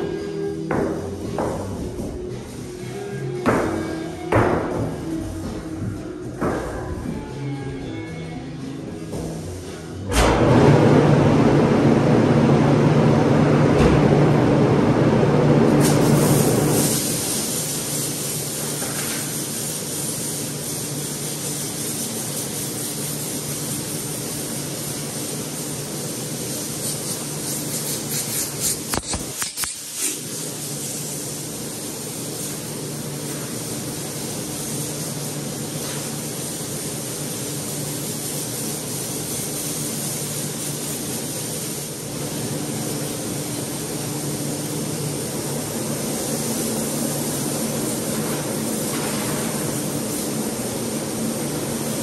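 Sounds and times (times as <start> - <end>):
continuous air hiss: 0.0 - 10.3, 14.2 - 52.0.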